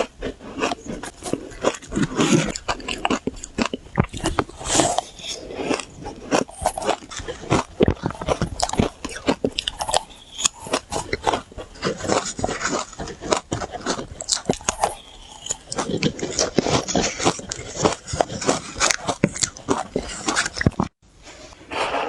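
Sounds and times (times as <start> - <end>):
chewing crunchy shaved ice: 0.0 - 21.0.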